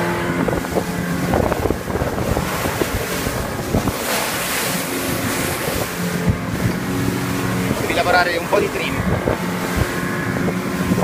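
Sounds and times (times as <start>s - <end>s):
outboard motor drone: 0.0s - 11.0s
water rushing along hull: 0.0s - 11.0s
water slapping hull: 0.0s - 11.0s
wind buffeting microphone: 0.0s - 11.0s.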